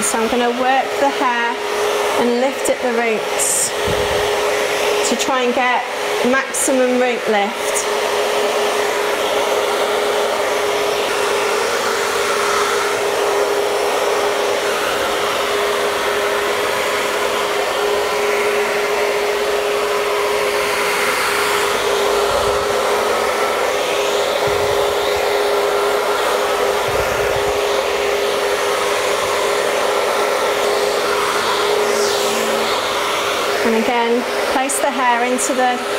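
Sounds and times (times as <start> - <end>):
hair dryer running: 0.0 - 35.9.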